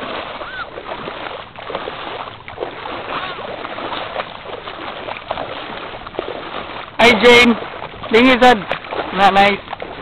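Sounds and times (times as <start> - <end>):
feet splashing through water: 0.0 - 10.0.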